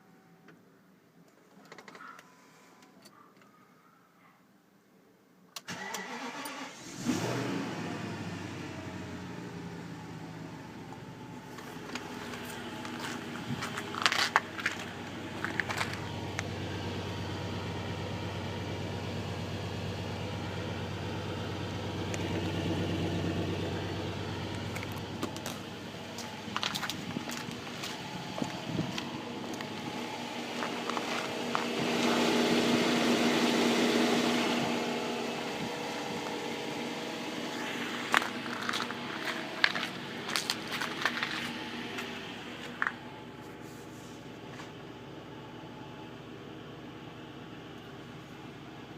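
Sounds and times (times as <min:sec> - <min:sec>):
car engine idling: 0:05.7 - 0:48.9.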